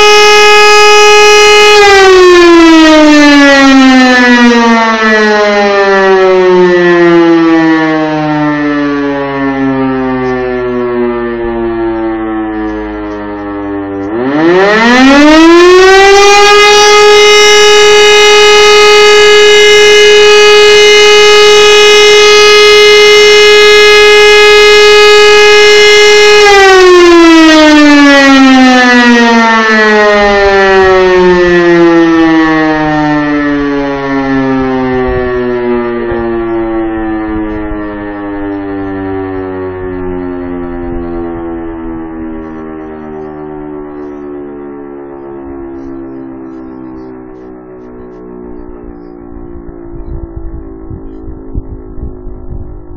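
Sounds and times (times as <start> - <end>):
civil defence siren wailing: 0.0 - 52.9.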